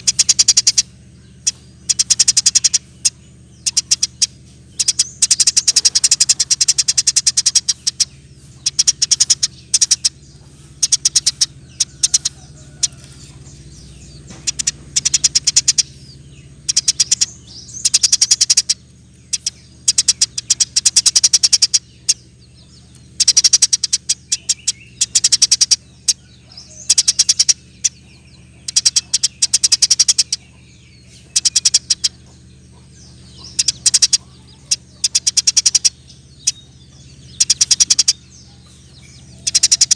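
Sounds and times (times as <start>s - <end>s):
sparrow chattering: 0.0s - 39.9s.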